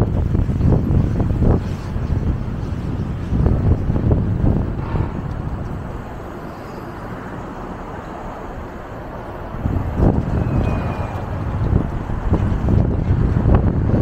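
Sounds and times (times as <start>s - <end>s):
street traffic hum: 0.0s - 14.0s
wind buffeting microphone: 0.0s - 14.0s.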